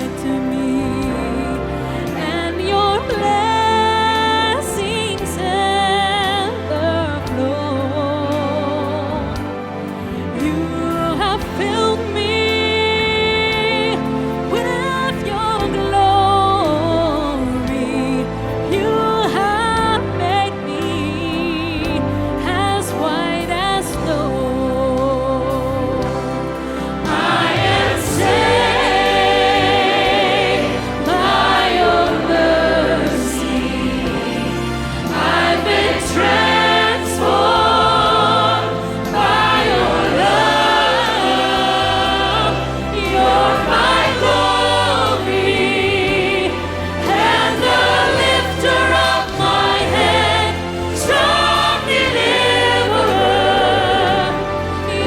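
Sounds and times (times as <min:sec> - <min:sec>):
instrumental accompaniment: 0:00.0 - 0:55.0
praise team singing worship song: 0:00.0 - 0:55.0
steady bass notes: 0:00.0 - 0:55.0.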